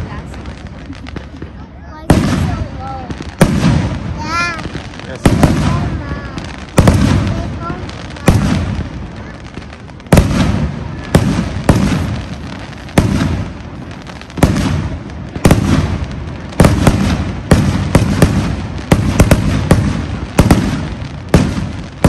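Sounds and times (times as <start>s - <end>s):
fireworks booming with echo: 0.0s - 22.0s.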